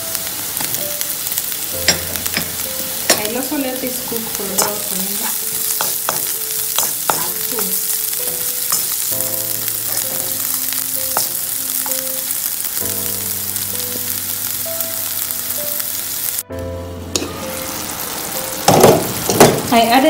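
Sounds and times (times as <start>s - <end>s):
onions sizzling in hot oil: 0.0s - 20.0s
soft background music: 0.0s - 20.0s.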